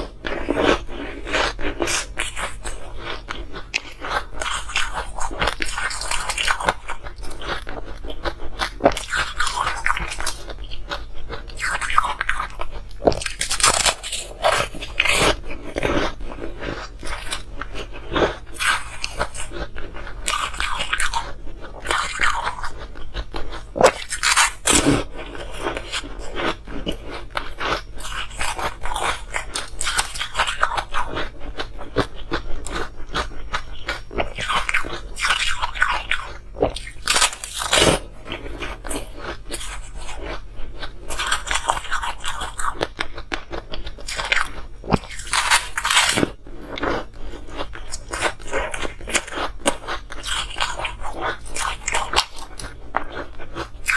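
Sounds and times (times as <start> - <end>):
person crunching ice: 0.0 - 40.4, 43.6 - 53.9.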